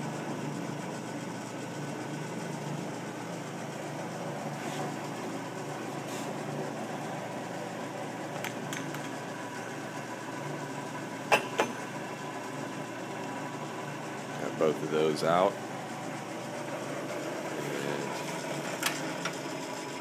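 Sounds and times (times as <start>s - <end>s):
lathe motor humming: 0.0s - 20.0s.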